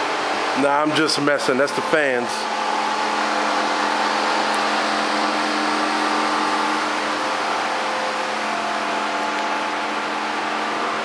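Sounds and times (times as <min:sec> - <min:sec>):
fans whirring: 0:00.0 - 0:11.0
whining tones: 0:00.0 - 0:11.0.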